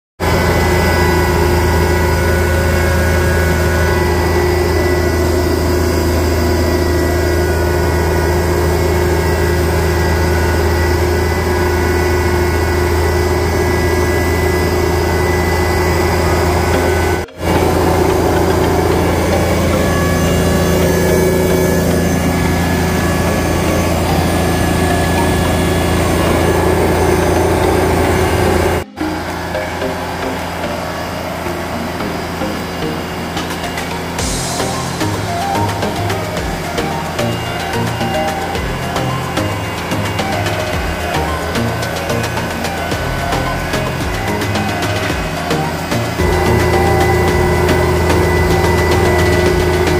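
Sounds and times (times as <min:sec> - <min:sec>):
lawn tractor engine humming: 0:00.2 - 0:49.9.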